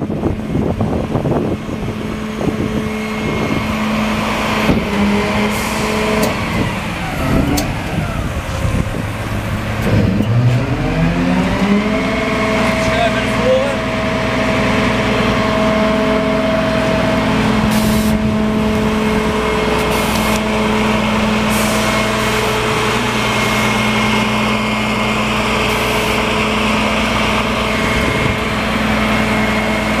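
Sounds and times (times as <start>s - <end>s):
diesel truck engine running: 0.0s - 30.0s
steady whine: 0.0s - 30.0s.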